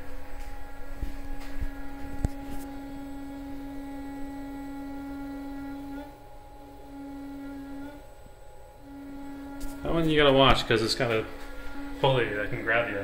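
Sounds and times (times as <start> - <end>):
servo motor moaning: 1.8 - 13.0.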